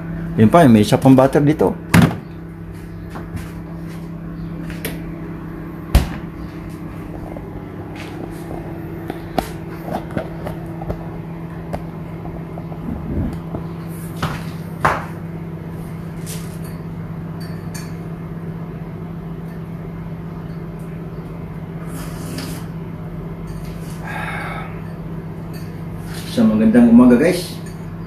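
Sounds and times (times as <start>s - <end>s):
refrigerator hum: 0.0s - 28.0s.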